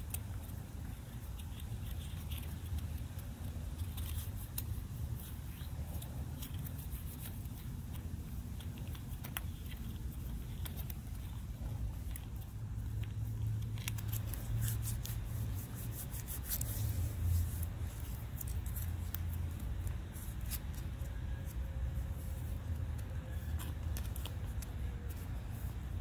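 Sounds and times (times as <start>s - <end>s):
foil pouch crinkling: 0.0s - 25.9s.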